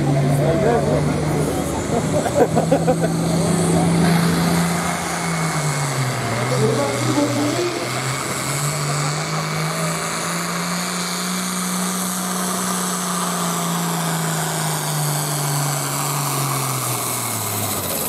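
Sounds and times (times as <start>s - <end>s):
diesel tractor engine at full throttle: 0.0s - 18.0s.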